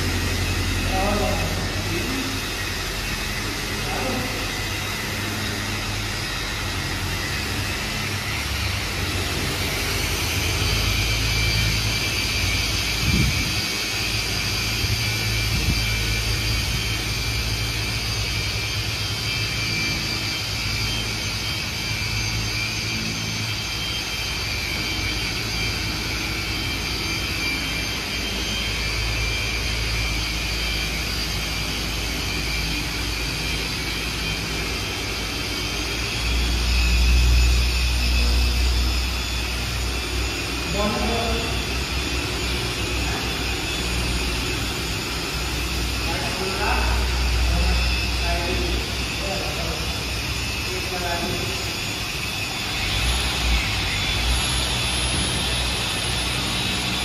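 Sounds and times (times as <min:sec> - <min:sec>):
car polisher motor whirring: 0:00.0 - 0:57.0.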